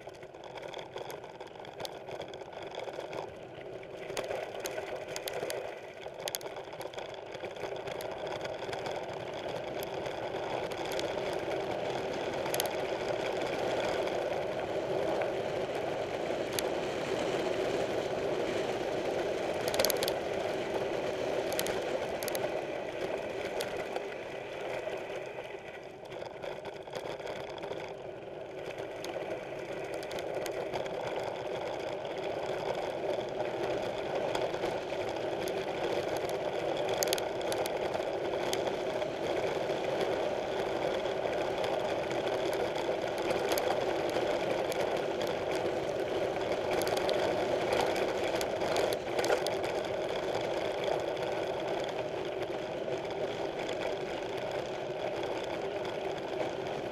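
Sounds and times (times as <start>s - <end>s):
bike rattling over bumps: 0.0s - 56.9s
mountain bike whirring buzz: 0.0s - 56.9s.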